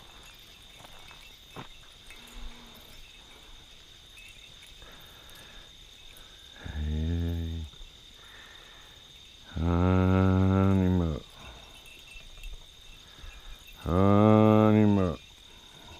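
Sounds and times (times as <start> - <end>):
crickets trilling: 0.0 - 15.9.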